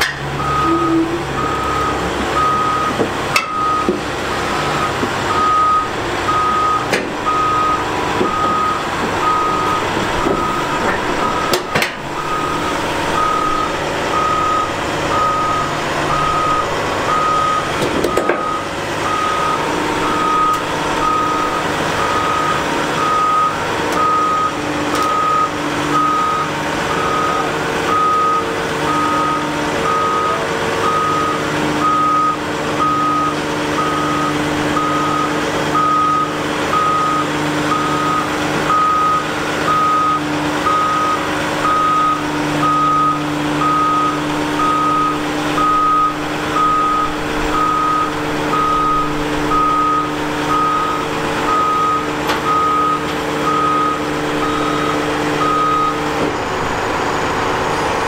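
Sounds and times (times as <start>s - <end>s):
travel alarm beeping: 0.0s - 4.0s, 4.7s - 56.2s
diesel engine running: 0.0s - 58.0s.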